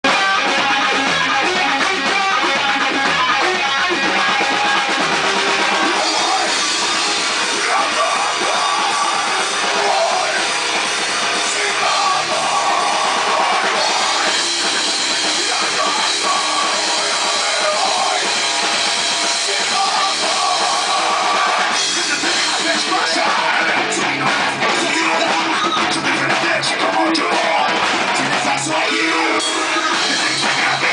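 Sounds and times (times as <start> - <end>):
drum kit: 0.0 - 30.9
electric guitar: 0.0 - 30.9
rock band playing: 0.0 - 30.9.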